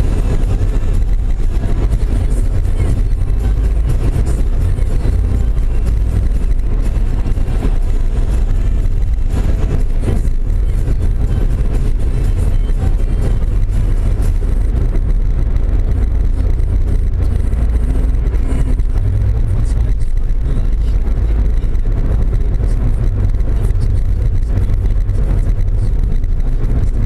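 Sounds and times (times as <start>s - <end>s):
car interior engine and tyre rumble: 0.0s - 27.0s.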